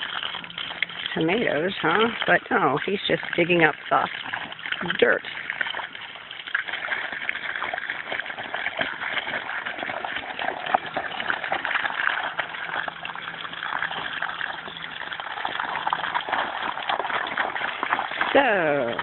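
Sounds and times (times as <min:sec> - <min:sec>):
dog splashing in water: 0:00.0 - 0:19.0
hose water splattering into puddle: 0:00.0 - 0:19.0.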